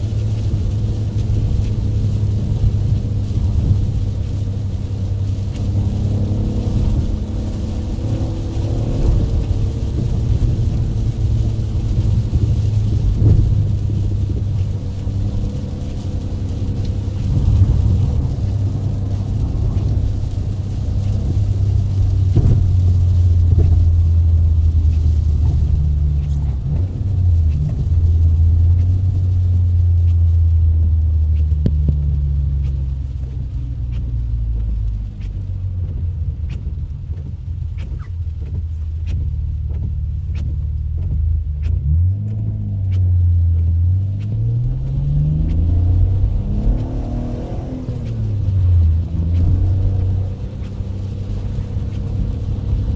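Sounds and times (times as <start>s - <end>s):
car engine droning: 0.0s - 52.9s.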